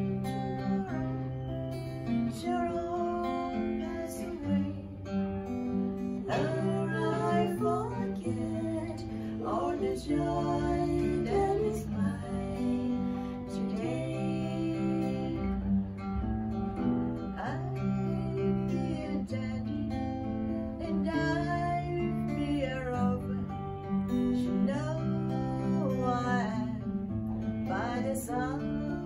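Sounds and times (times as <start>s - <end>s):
woman singing: 0.0s - 5.1s, 6.1s - 15.7s, 17.3s - 27.0s, 27.6s - 29.0s
acoustic guitar strumming: 0.0s - 29.0s.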